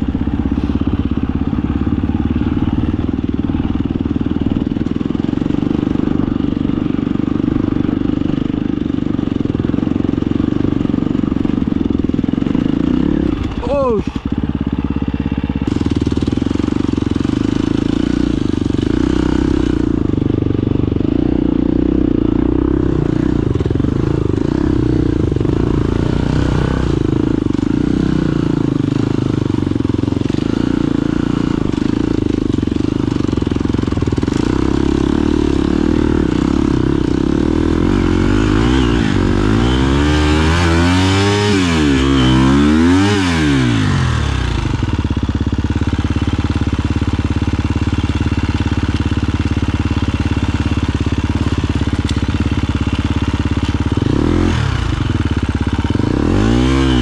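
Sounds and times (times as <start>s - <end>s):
motorcycle engine running and revving: 0.0s - 57.0s.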